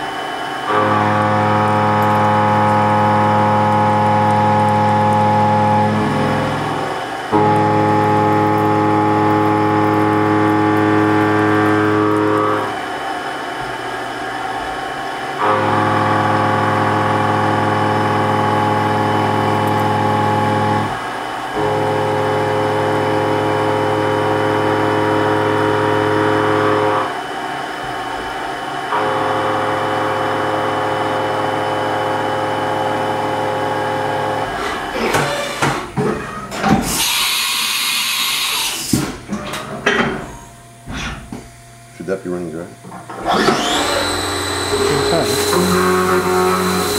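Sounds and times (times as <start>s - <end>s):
milling machine cutting metal: 0.0s - 40.0s, 42.8s - 46.9s.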